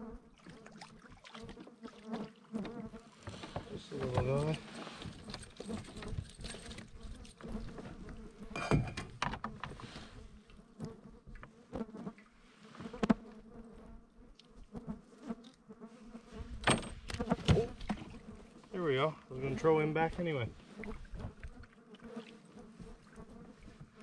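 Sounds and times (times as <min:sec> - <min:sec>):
flies buzzing: 0:00.0 - 0:24.0.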